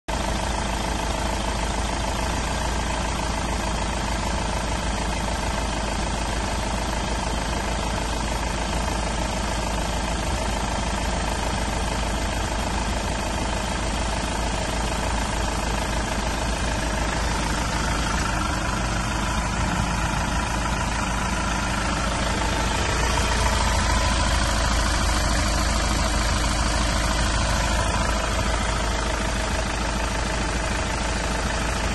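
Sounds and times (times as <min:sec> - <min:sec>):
diesel engine idling: 0:00.1 - 0:31.9.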